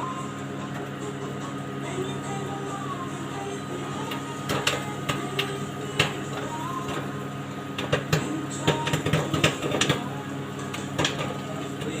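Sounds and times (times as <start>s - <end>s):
microwave oven humming: 0.0s - 12.0s
popcorn popping: 0.0s - 12.0s.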